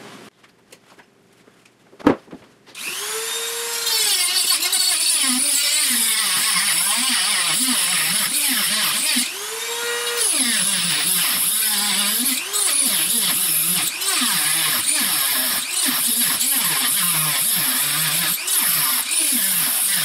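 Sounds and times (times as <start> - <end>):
rotary tool grinding metal: 2.8 - 20.0.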